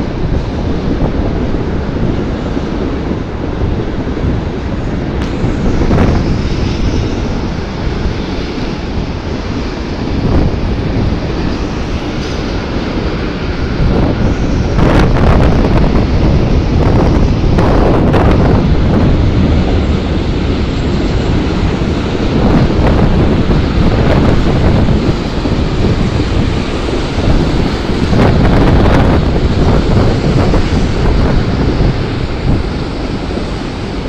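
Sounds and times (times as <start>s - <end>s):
train wheels rumbling on rails: 0.0s - 34.0s
wind buffeting microphone: 0.0s - 34.0s.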